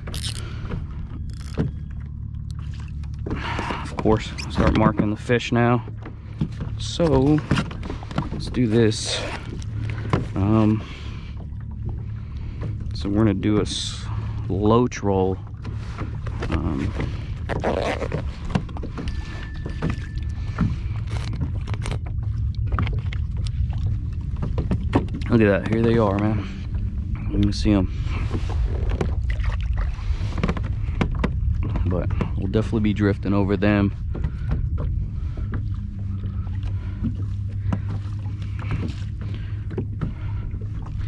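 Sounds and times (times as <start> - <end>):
steady low hum: 0.0 - 41.0
wind rumble on microphone: 0.0 - 41.0
water slapping against kayak hull: 2.6 - 13.8, 15.4 - 26.7, 28.0 - 41.0.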